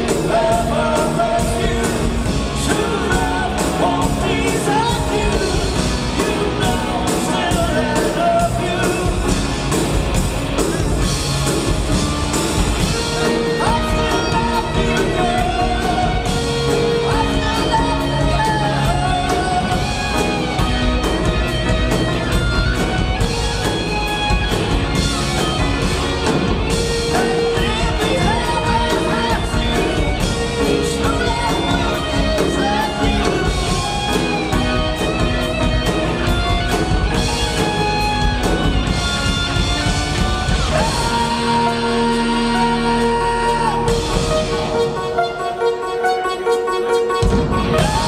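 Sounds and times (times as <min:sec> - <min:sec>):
lead singer singing: 0:00.0 - 0:09.9, 0:12.8 - 0:24.4, 0:25.4 - 0:44.9, 0:47.5 - 0:48.0
electric bass: 0:00.0 - 0:45.1
drum kit: 0:00.0 - 0:48.0
electric guitars: 0:00.0 - 0:48.0
keyboard: 0:00.0 - 0:48.0.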